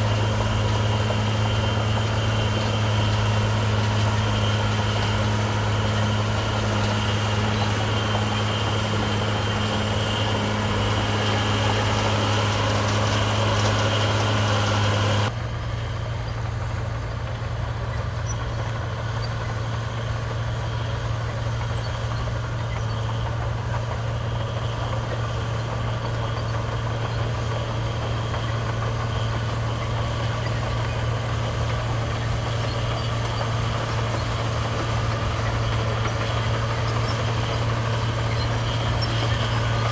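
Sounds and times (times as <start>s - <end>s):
heavy diesel engines humming: 0.0s - 39.9s
higher engine hum: 0.0s - 39.9s.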